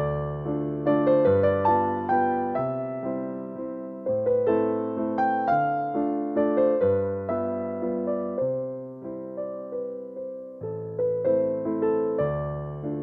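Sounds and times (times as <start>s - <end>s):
low piano bass notes: 0.0s - 13.0s
piano melody notes: 0.0s - 13.0s.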